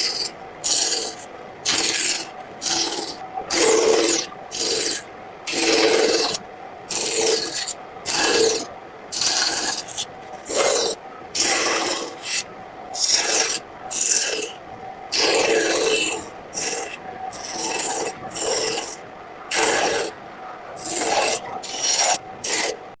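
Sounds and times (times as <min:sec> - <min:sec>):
blade scraping painted wood: 0:00.0 - 0:14.6, 0:15.2 - 0:20.2, 0:20.8 - 0:23.0.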